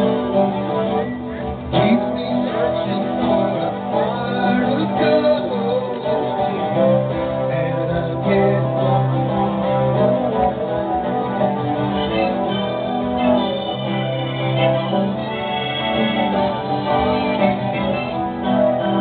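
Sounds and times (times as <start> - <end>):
guitar playing: 0.0 - 19.0
person singing: 0.0 - 19.0.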